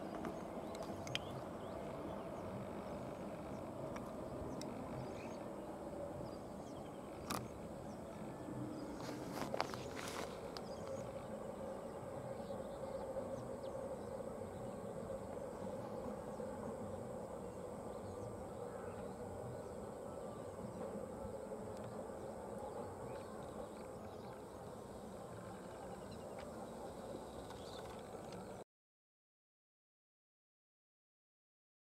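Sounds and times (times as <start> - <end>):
steady low hum: 0.0 - 28.6.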